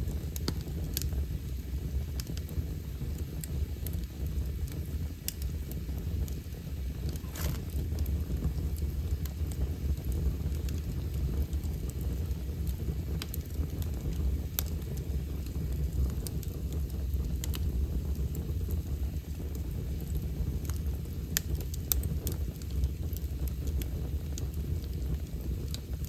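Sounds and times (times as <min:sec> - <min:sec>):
fire crackles and pops: 0:00.0 - 0:26.0
wood fire burning: 0:00.0 - 0:26.0.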